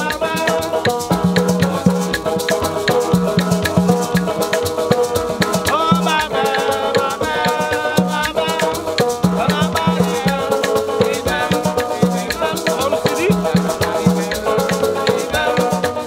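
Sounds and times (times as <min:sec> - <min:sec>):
acoustic guitar: 0:00.0 - 0:16.0
man singing: 0:00.0 - 0:16.0
shaker beat: 0:00.0 - 0:16.0
strummed banjo: 0:00.0 - 0:16.0.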